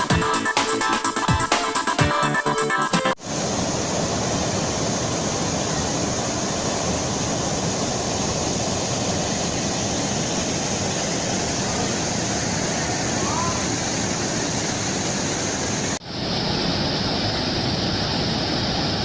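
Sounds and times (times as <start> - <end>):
waterfall rushing: 3.2 - 19.0.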